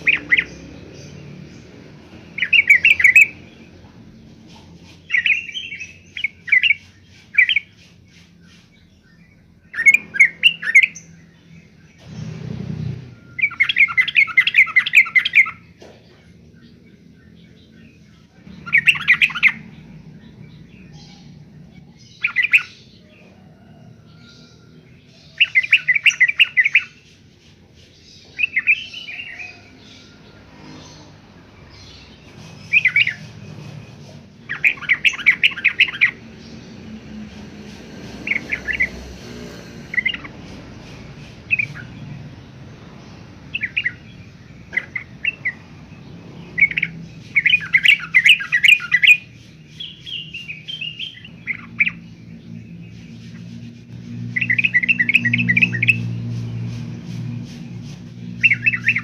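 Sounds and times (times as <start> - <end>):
bird chirps: 0.0 - 59.0.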